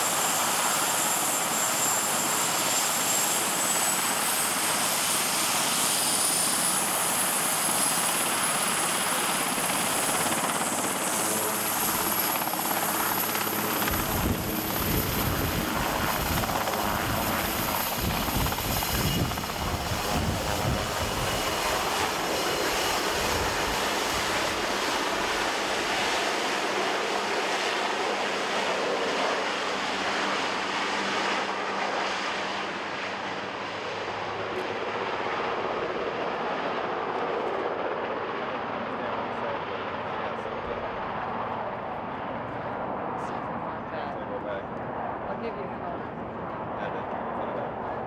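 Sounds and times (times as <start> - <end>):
helicopter rotor beat: 0.0 - 48.0
helicopter turbine whine: 0.0 - 48.0.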